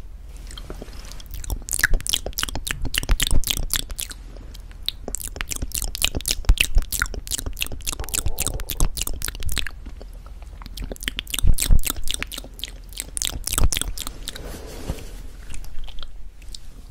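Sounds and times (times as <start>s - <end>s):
crunchy chewing: 0.4s - 14.6s, 15.4s - 16.7s.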